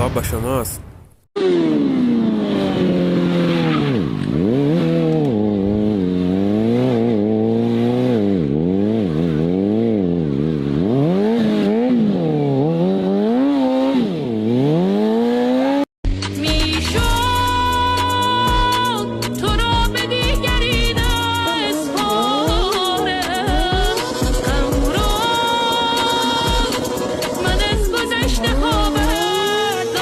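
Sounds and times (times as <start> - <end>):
motorcycle engine revving: 1.4 - 30.0.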